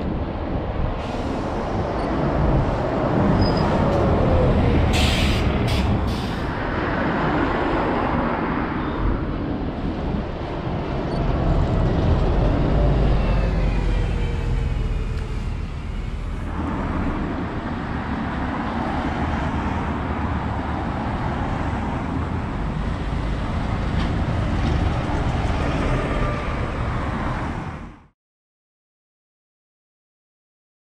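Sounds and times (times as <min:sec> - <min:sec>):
bus engine: 0:00.0 - 0:28.1
passing cars: 0:00.0 - 0:28.1.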